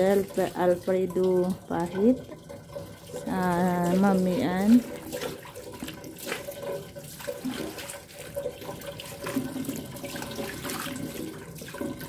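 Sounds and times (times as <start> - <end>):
hand sloshing water: 0.0 - 12.0
hose water running into basin: 0.0 - 12.0.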